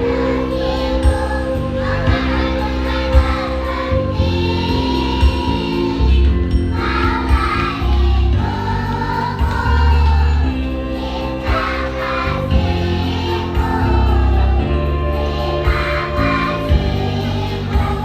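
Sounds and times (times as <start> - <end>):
backing music with strong bass: 0.0 - 18.0
children's choir singing: 0.0 - 18.0.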